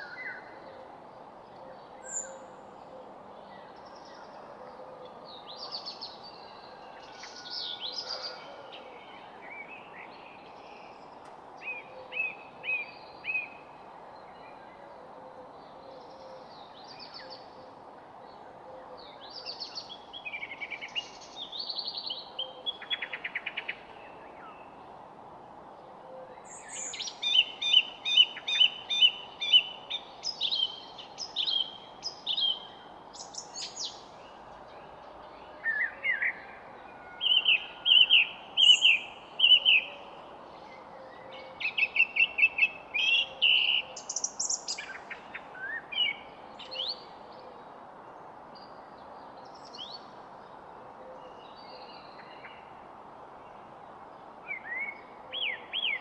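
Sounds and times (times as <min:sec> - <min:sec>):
background hiss: 0:00.0 - 0:56.0
songbirds chirping: 0:00.0 - 0:56.0.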